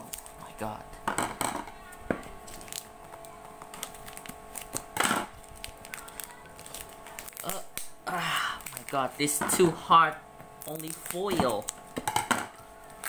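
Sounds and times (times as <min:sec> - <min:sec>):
packing tape crackling: 0:00.0 - 0:13.0.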